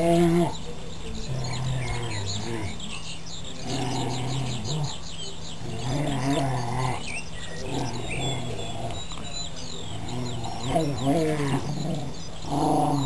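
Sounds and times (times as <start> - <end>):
dogs growling: 0.0 - 2.9, 3.5 - 13.0
birds chirping: 0.0 - 13.0.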